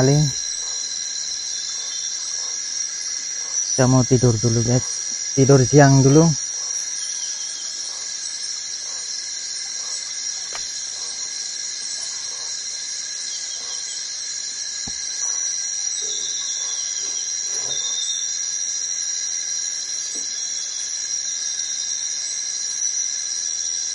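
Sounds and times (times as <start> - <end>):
insects droning: 0.0 - 23.9.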